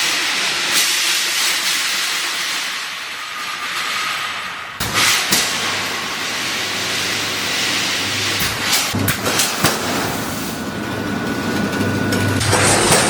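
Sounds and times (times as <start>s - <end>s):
welding machine hiss and hum: 0.0s - 13.0s.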